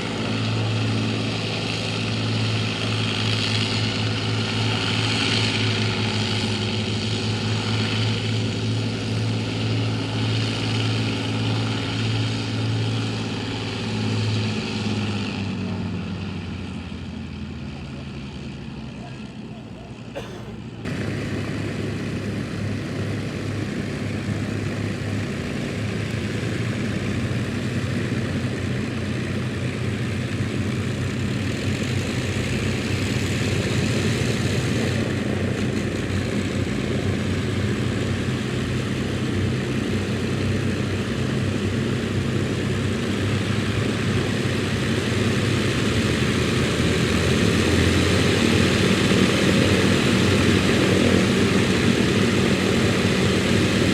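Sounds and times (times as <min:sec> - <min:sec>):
propeller aircraft engine: 0:00.0 - 0:53.9.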